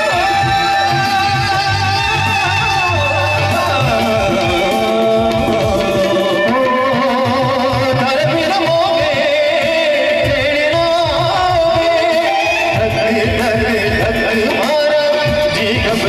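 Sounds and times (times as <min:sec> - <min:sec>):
keyboard and percussion: 0:00.0 - 0:16.0
man singing: 0:00.0 - 0:16.0.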